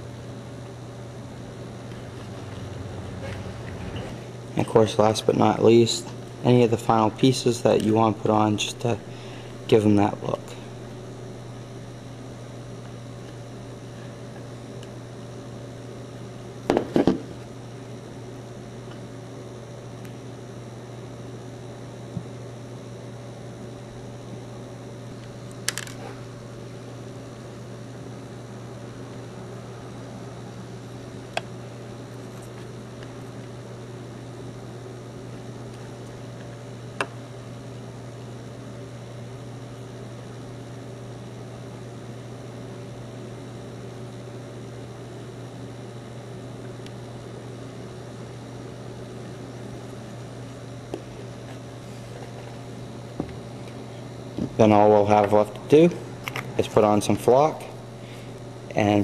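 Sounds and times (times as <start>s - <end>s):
low equipment hum: 0.0s - 59.0s.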